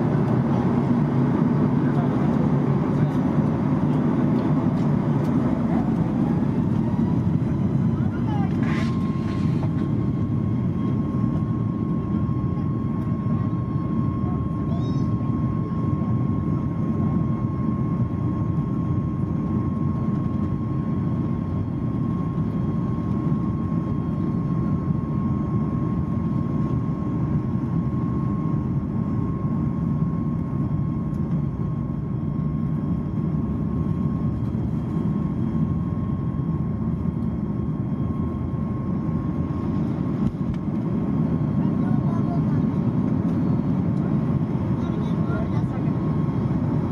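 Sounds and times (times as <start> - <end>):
engine whine: 0.0 - 46.9
jet engine low rumble: 0.0 - 46.9.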